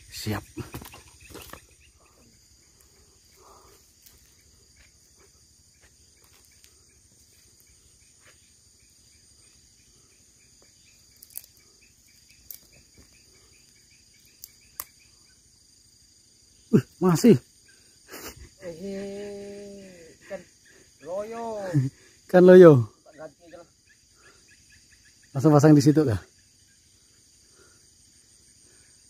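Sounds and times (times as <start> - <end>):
crickets and insects chirping: 0.0 - 29.0.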